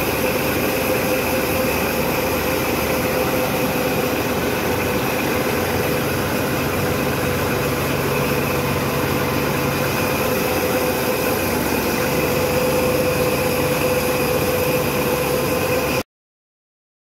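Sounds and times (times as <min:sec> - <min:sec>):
belt-driven machine droning: 0:00.0 - 0:16.0.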